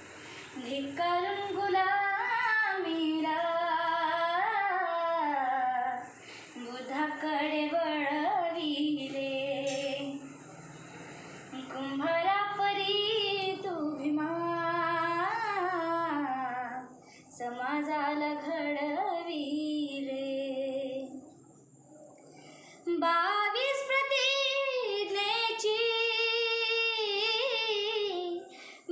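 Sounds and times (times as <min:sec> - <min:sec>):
girl singing unaccompanied: 0:00.6 - 0:10.3, 0:11.5 - 0:21.2, 0:22.8 - 0:28.9.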